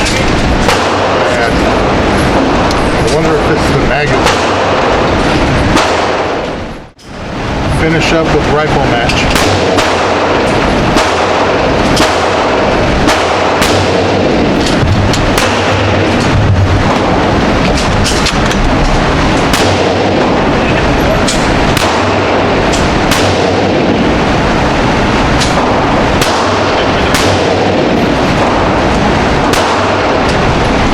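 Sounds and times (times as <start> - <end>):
gunshots: 0.0 - 6.6, 7.9 - 30.9
loud background noise: 0.0 - 30.9.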